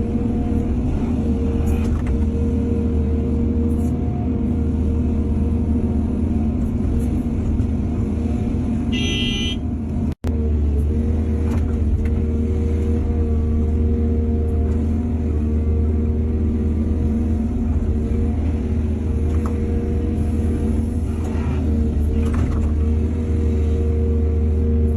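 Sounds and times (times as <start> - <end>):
heavy diesel machinery rumbling: 0.0 - 24.9.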